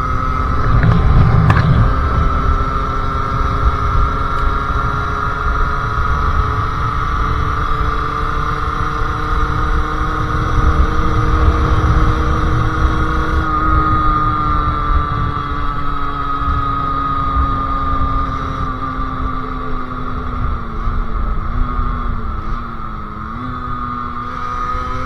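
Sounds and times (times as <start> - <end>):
two-stroke motorcycle engine: 0.0 - 25.0.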